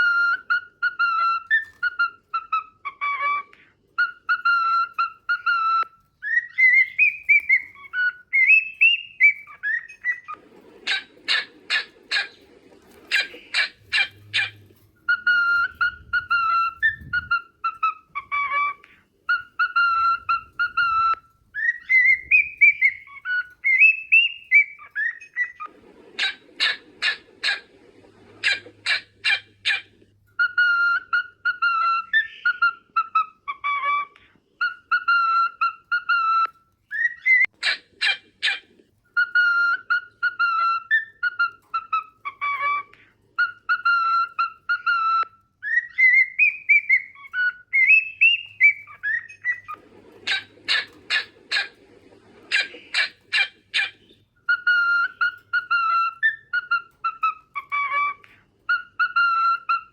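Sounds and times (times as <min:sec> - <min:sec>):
cockatiel whistling: 0:00.0 - 0:59.9
rapid bird chirps: 0:04.0 - 0:33.2, 0:34.7 - 0:59.9.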